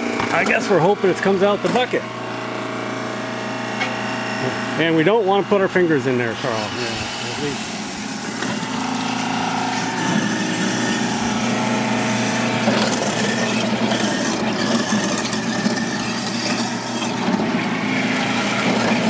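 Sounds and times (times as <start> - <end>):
waste disposal unit grinding: 0.0 - 19.0.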